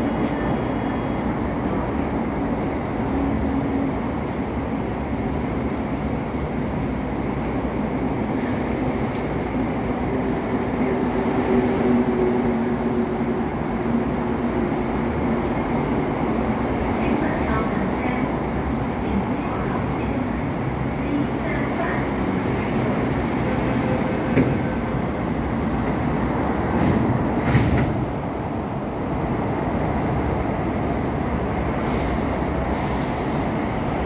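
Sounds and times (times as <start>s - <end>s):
electric train hum: 0.0s - 34.0s
train whine: 0.0s - 34.0s.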